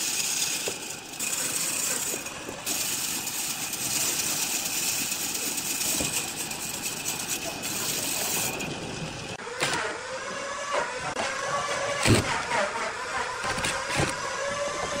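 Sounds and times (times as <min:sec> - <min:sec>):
lathe motor whine: 0:00.0 - 0:15.0
lathe tool cutting wood: 0:00.0 - 0:15.0.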